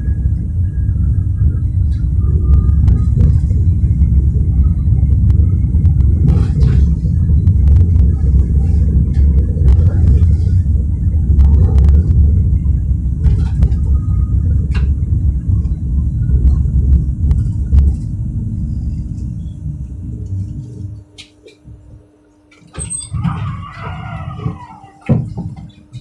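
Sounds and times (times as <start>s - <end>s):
tram motor tone: 0.0s - 26.0s
tram running on rails: 0.0s - 26.0s.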